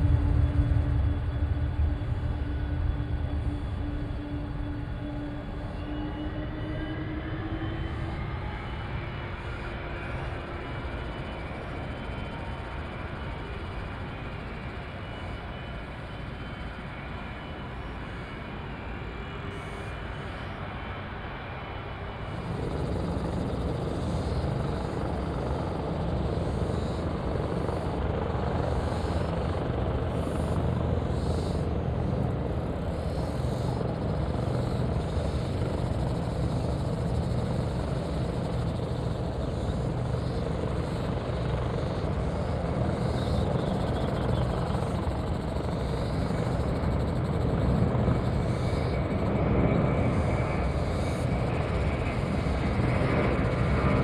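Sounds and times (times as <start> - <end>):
faint jet noise: 0.0 - 54.0
jet engines at takeoff thrust: 0.0 - 54.0.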